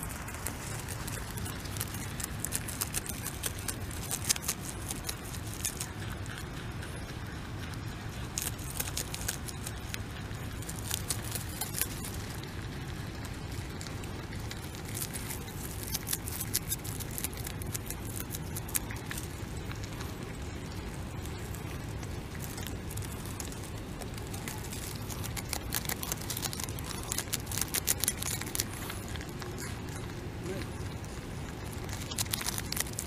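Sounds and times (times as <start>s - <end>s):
beaver chewing greens: 0.0s - 33.0s
steady low rumble: 0.0s - 33.0s.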